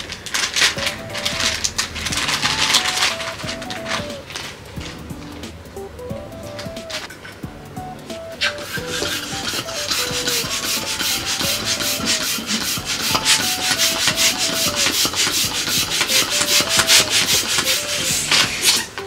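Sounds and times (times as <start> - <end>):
rapid rhythmic scraping: 0.0 - 19.0
simple background melody: 0.6 - 19.0.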